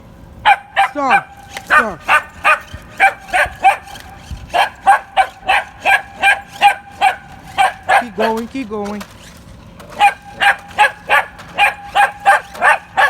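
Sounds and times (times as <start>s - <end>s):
puppy yapping: 0.4s - 8.5s, 9.8s - 13.0s
remote-control toy car: 1.4s - 13.0s.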